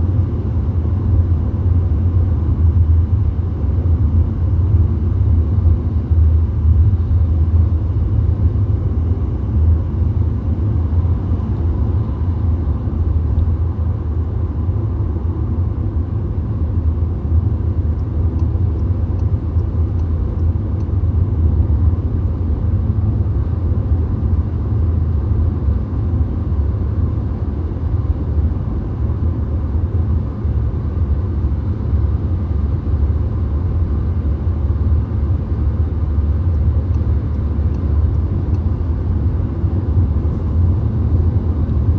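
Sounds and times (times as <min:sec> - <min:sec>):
car road noise at highway speed: 0:00.0 - 0:41.9.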